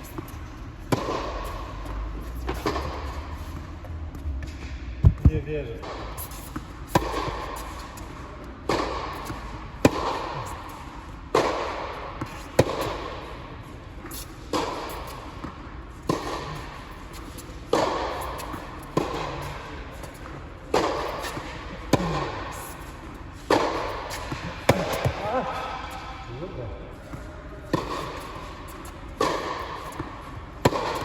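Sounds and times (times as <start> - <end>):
tennis ball struck by racquet: 0.0 - 3.7, 4.4 - 13.4, 14.0 - 26.2, 27.1 - 31.0
ball bouncing on court: 0.0 - 13.4, 14.0 - 26.1, 27.0 - 31.0.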